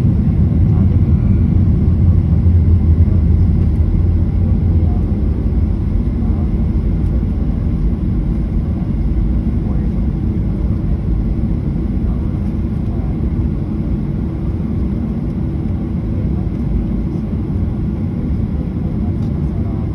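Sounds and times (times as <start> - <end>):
jet engines low rumble: 0.0 - 19.9.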